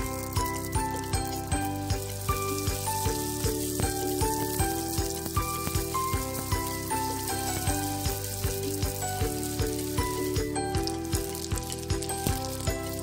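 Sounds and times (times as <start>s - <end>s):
background music with beat: 0.0s - 13.0s
spring rolls sizzling in oil: 0.0s - 13.0s.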